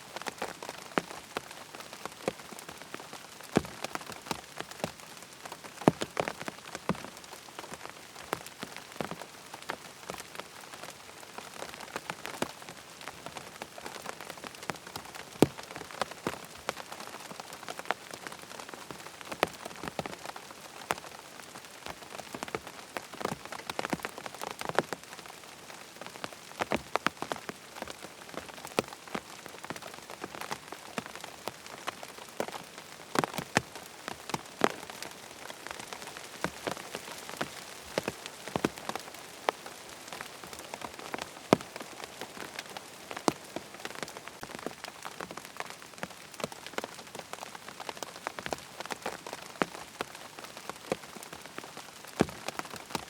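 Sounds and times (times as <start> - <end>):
rain on a tent: 0.0 - 53.0.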